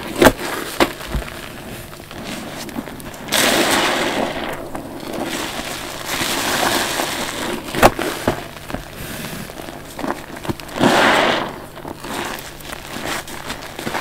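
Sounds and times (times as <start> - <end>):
wet sponge squelching: 0.0 - 14.0.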